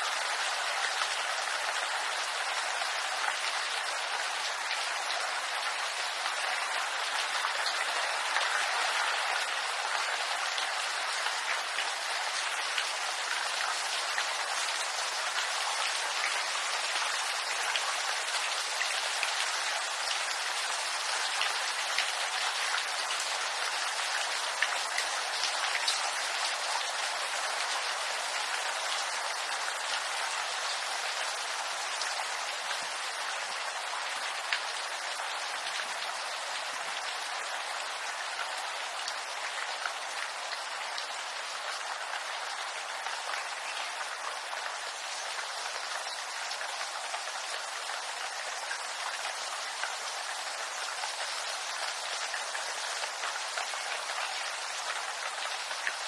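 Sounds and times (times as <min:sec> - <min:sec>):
rain on bamboo leaves: 0:00.0 - 0:56.0.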